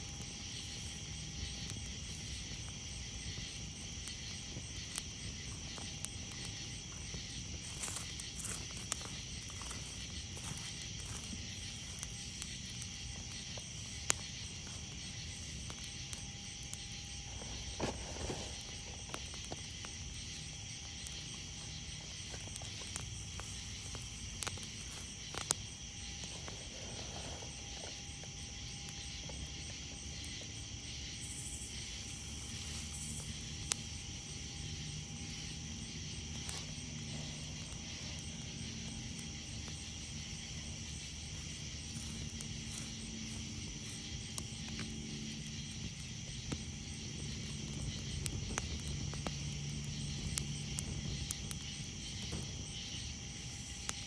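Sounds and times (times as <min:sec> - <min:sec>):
campfire crackling and popping: 0:00.0 - 0:54.0
insects chirring: 0:00.0 - 0:54.0.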